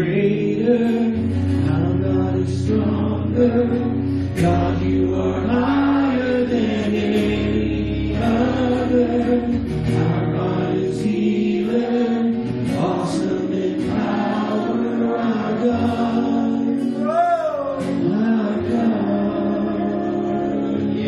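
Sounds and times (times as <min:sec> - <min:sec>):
voices singing worship music: 0:00.0 - 0:21.0.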